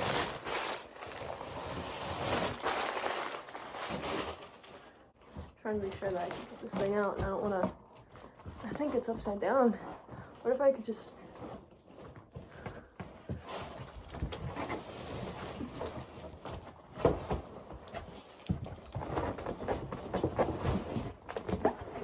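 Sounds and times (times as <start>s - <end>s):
cardboard rustling: 0.0s - 22.0s.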